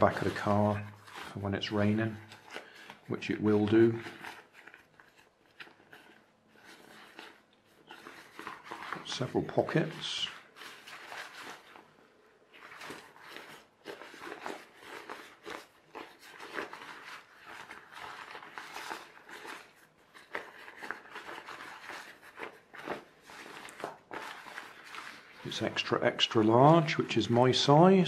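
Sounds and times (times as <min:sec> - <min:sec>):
rain jacket fabric rustling: 0:00.0 - 0:28.0.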